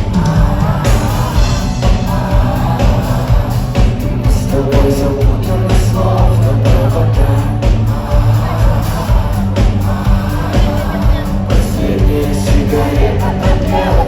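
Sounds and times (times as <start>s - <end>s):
heavy bass: 0.0s - 14.0s
live rock band playing: 0.0s - 14.0s
person singing: 0.0s - 14.0s.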